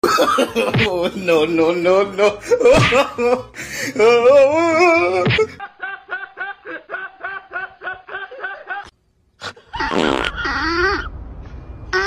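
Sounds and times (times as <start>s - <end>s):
rhythmic laughing: 0.0s - 11.0s.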